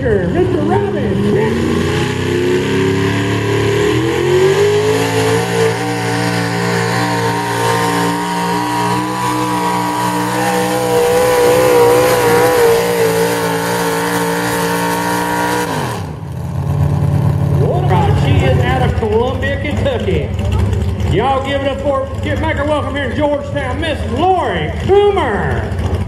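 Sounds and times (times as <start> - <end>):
tractor engine revving: 0.0 - 26.0.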